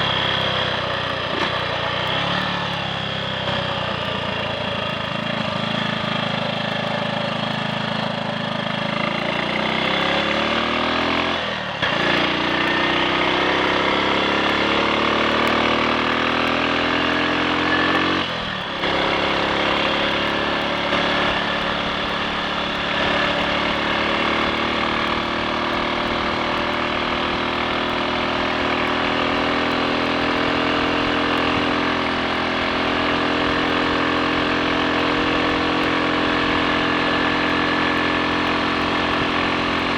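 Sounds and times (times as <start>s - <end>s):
motorcycle engine pulling under load: 0.0s - 39.9s.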